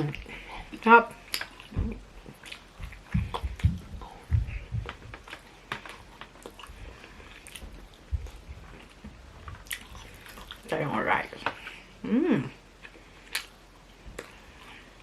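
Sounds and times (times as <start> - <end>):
chewing food with wet smacks: 0.0 - 10.8, 12.8 - 15.0.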